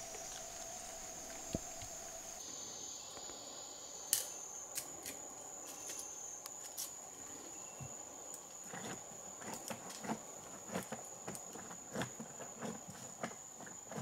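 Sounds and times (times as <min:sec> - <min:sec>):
insect chorus buzzing: 0:00.0 - 0:14.0
low insect tone: 0:00.0 - 0:14.0.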